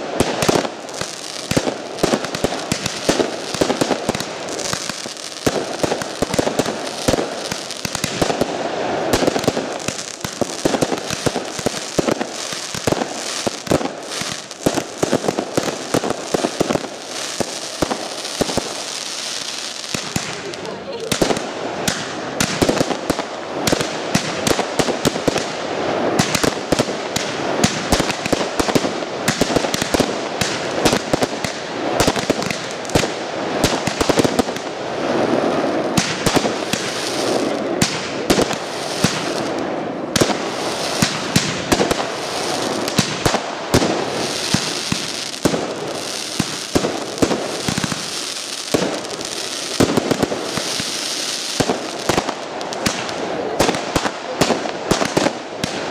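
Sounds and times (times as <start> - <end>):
firework bursts and bangs: 0.0 - 55.9
firework crackling: 0.0 - 55.9.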